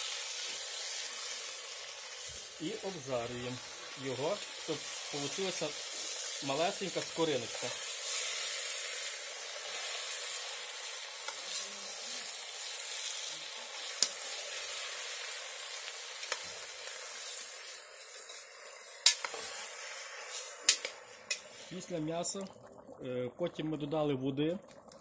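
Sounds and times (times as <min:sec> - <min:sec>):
meat sizzling in a pot: 0:00.0 - 0:22.4.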